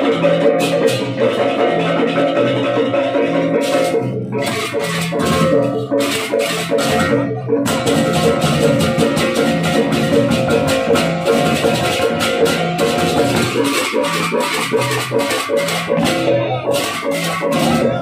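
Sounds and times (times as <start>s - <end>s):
gamelan music: 0.0s - 18.0s.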